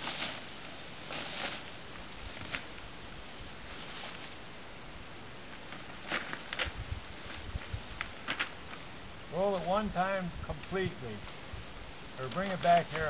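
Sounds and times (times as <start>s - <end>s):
sharp crackles: 0.0s - 4.5s, 5.4s - 13.0s
plastic tubing rustling over dry leaves: 0.0s - 13.0s.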